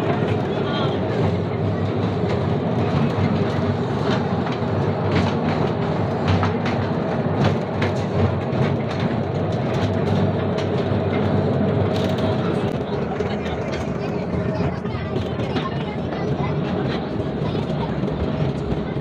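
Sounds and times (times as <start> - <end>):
clacks and rattles: 0.0 - 19.0
train wheels rumbling on rails: 0.0 - 19.0.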